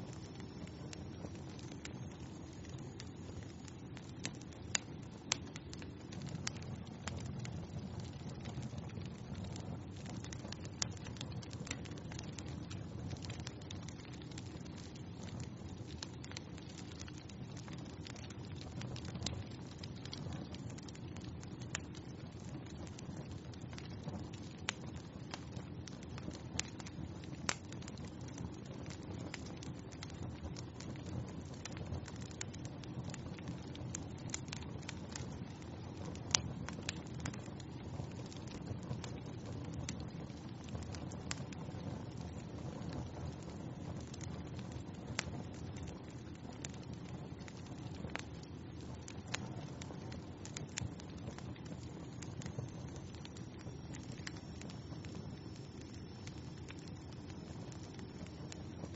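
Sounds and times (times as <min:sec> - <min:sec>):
low hiss of fire: 0:00.0 - 0:58.9
sharp fire pops: 0:00.0 - 0:58.9
wood fire crackling: 0:00.0 - 0:58.9.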